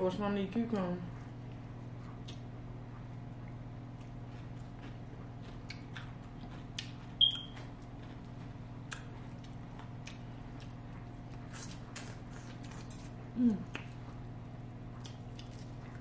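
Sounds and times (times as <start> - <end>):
steady low hum: 0.0 - 16.0
chewing and lip smacks: 1.3 - 16.0.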